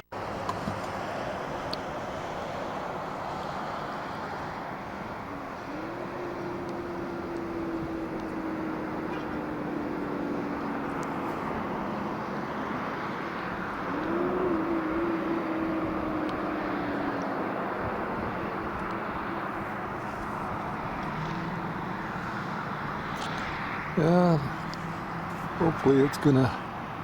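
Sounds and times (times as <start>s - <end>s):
road and engine noise: 0.0s - 27.0s.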